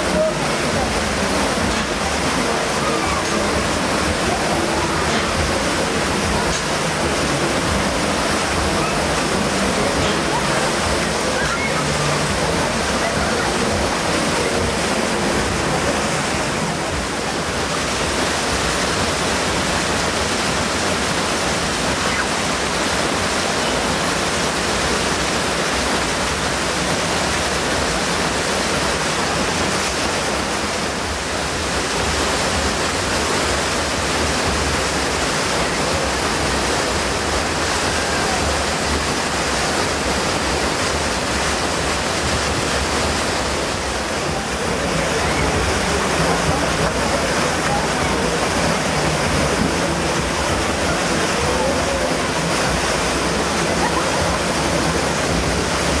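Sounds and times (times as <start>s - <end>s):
white water rushing: 0.0s - 56.0s.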